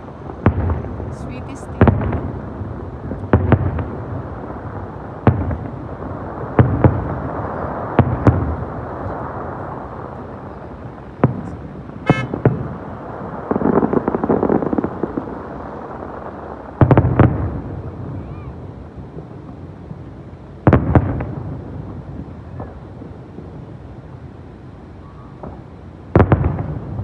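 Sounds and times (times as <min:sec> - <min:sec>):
fireworks bangs: 0:00.0 - 0:27.0
fireworks crackling: 0:00.0 - 0:27.0.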